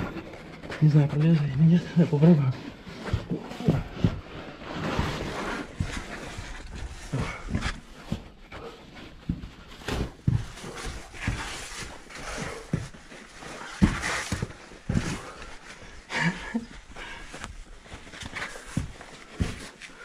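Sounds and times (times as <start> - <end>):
scuffs and knocks of movement: 0.0 - 20.0.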